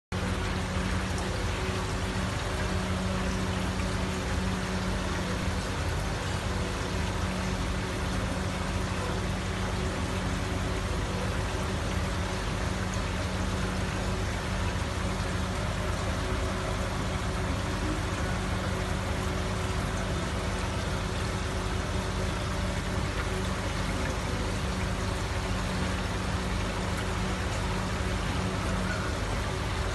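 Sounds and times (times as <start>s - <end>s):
low pump hum: 0.1s - 29.9s
water circulating in fish tank: 0.1s - 29.9s.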